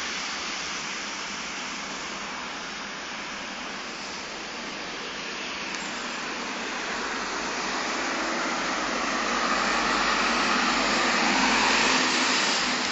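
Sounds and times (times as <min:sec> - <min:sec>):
vehicle tyre and engine rush: 0:00.0 - 0:12.9.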